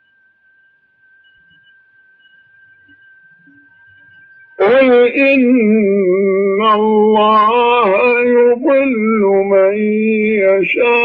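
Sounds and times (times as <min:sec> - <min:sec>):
faint high-pitched tone: 0:00.0 - 0:09.5.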